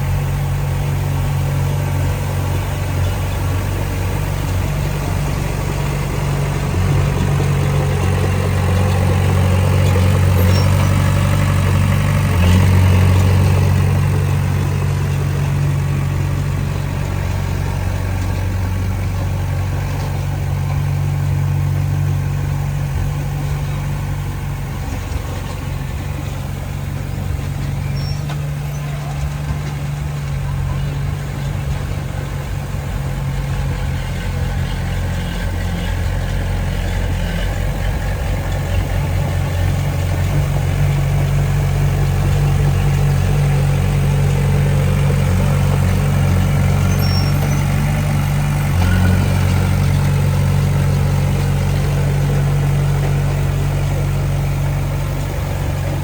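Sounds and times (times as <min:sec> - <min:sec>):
heavy diesel engine droning: 0:00.0 - 0:56.0.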